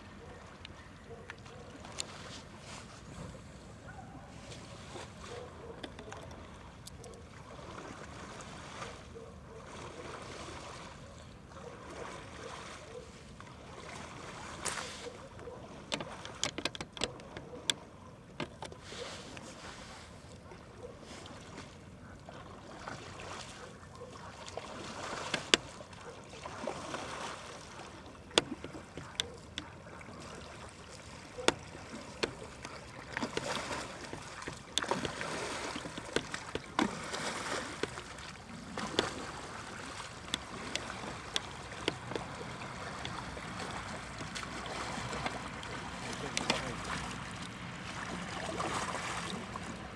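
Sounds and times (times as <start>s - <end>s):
water lapping around canoe: 0.0s - 49.9s.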